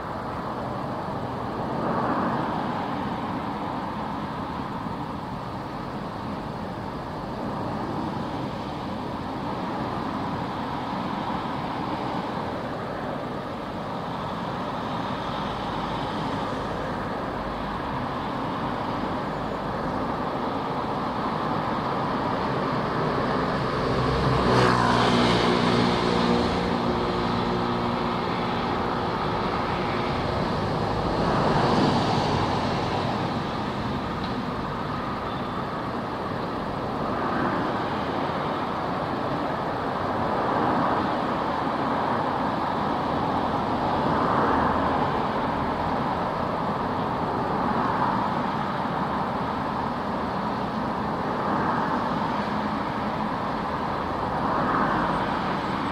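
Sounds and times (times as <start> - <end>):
street traffic: 0.0 - 55.9
vehicles passing: 0.0 - 55.9.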